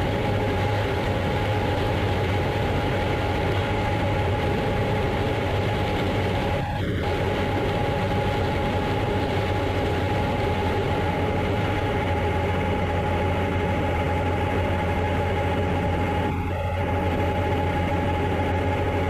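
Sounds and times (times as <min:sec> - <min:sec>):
farm machinery droning: 0:00.0 - 0:19.0.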